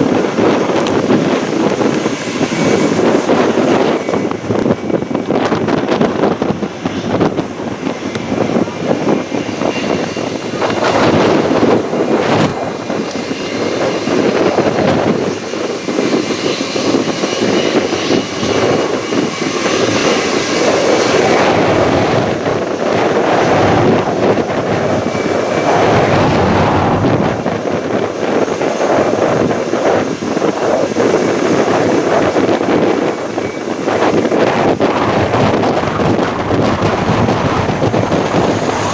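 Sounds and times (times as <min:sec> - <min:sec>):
jet engines rushing and whining: 0:00.0 - 0:38.9
wind buffeting microphone: 0:00.0 - 0:38.9.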